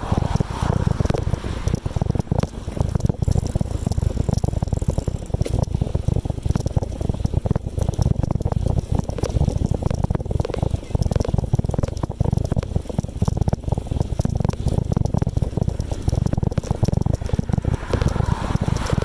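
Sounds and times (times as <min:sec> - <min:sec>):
bicycle parts rattling: 0:00.0 - 0:19.0
road and wind noise: 0:00.0 - 0:19.0.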